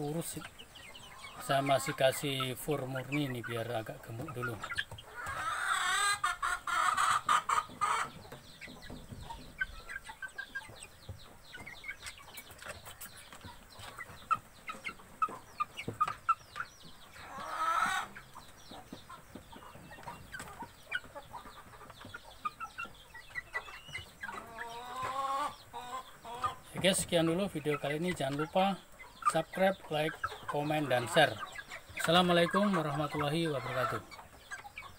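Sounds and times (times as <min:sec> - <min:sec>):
drawn-out chicken call: 0:00.0 - 0:27.0, 0:27.9 - 0:34.9
chicks cheeping and clucking: 0:00.0 - 0:34.9.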